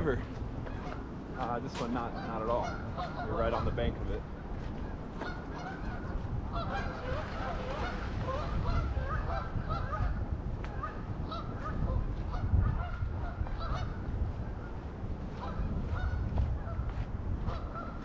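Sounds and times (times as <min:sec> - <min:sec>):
geese honking: 0:00.6 - 0:04.1, 0:04.8 - 0:10.2, 0:10.8 - 0:14.7, 0:15.4 - 0:16.8, 0:17.4 - 0:18.0.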